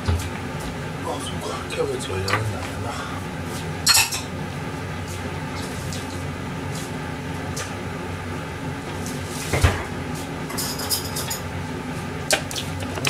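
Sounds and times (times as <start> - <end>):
kitchen background hum: 0.0 - 13.0.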